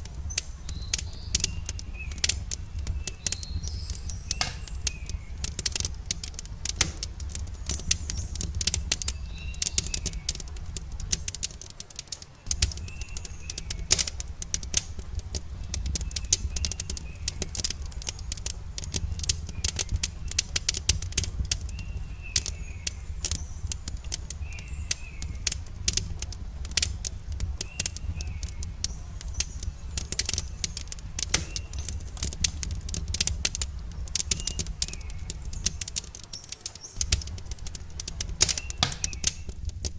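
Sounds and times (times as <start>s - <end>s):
campfire crackling and popping: 0.0s - 39.9s
small birds chirping: 0.0s - 39.9s.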